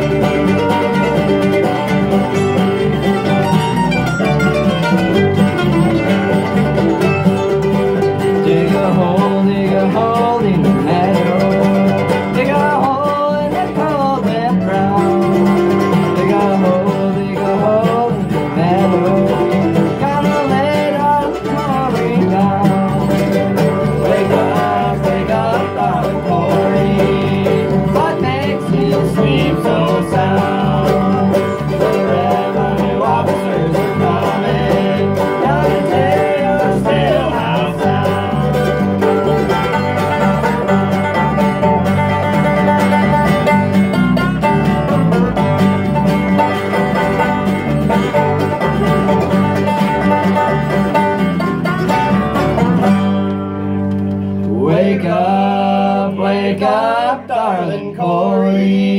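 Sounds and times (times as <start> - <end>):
banjo rolls: 0.0 - 58.9
bass line: 0.0 - 58.9
bluegrass band playing: 0.0 - 58.9.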